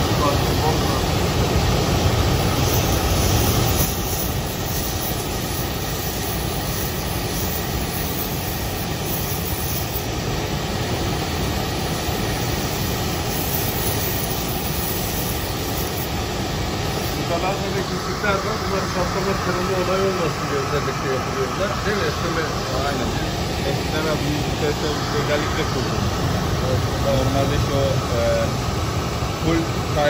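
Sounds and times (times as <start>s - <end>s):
gas torch flame rushing: 0.0s - 30.0s.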